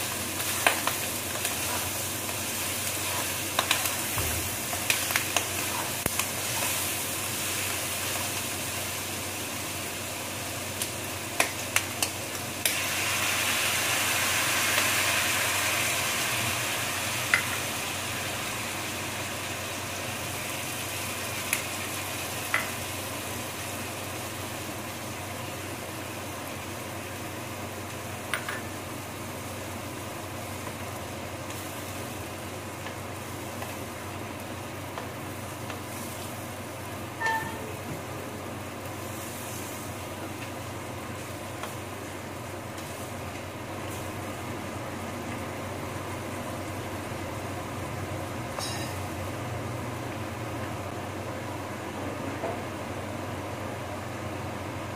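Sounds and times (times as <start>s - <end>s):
meat sizzling in a pan: 0.0s - 49.4s.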